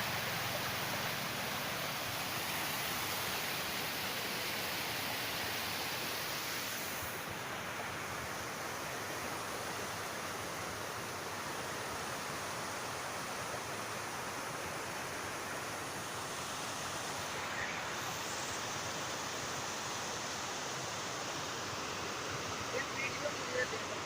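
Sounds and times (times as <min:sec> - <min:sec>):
floodwater rushing in a stream: 0:00.0 - 0:24.0.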